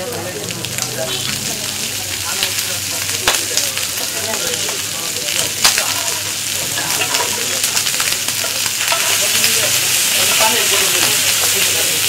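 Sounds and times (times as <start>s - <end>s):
meat sizzling in hot oil: 0.0s - 12.0s
oil crackles and pops: 0.0s - 12.0s.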